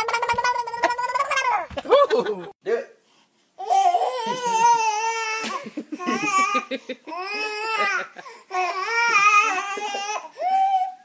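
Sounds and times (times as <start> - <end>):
baby laughing: 0.0 - 2.6, 3.7 - 10.8.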